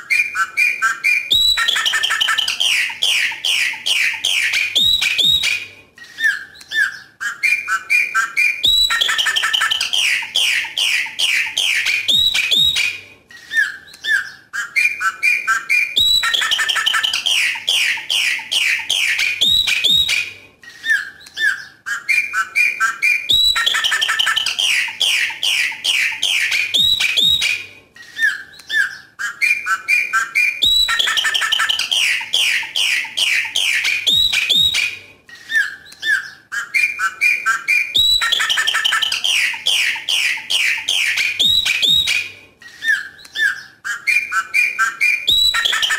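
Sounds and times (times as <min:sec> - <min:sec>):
blackbird singing: 0:00.0 - 0:45.9.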